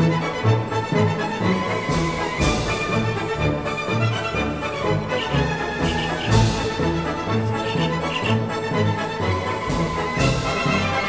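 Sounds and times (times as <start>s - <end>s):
orchestral background music: 0.0s - 11.0s.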